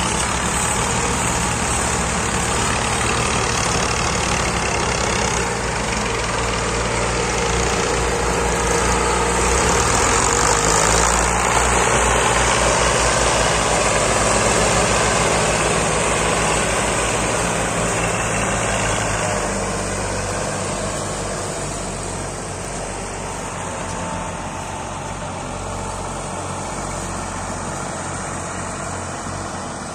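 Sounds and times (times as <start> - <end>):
tractor diesel engines under load: 0.0 - 29.9.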